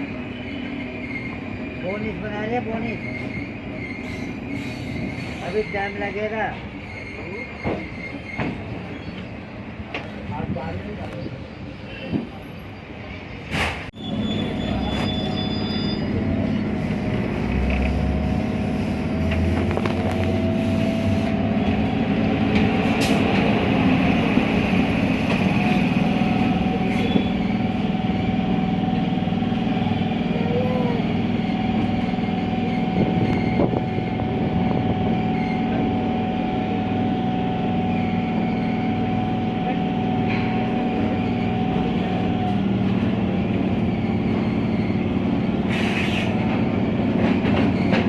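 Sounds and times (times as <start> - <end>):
train rumbling: 0.0 - 48.0.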